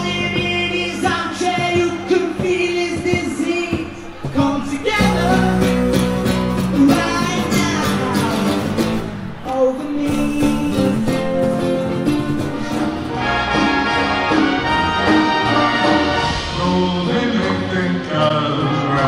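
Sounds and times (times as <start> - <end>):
acoustic guitars strummed: 0.0 - 19.0
person singing: 0.0 - 19.0.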